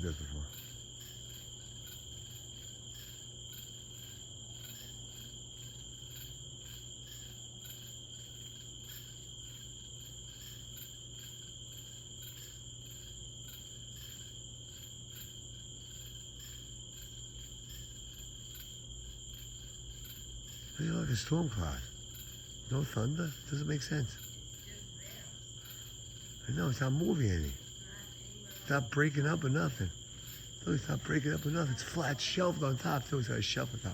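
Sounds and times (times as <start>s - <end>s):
crickets chirring: 0.0s - 33.9s.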